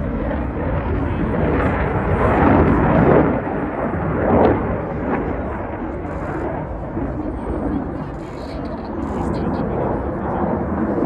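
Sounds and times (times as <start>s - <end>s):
jet flying overhead: 0.0s - 11.0s.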